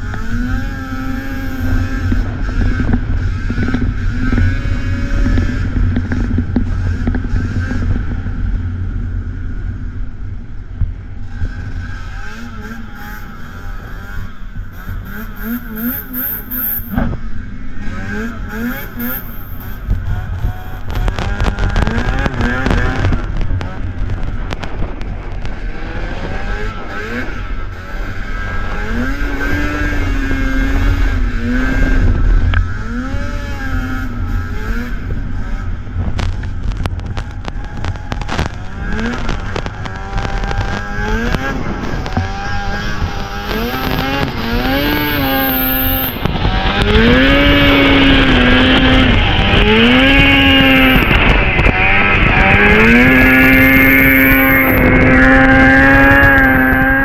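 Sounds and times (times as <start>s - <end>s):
snowmobile engine revving: 0.0s - 8.4s, 11.2s - 57.0s.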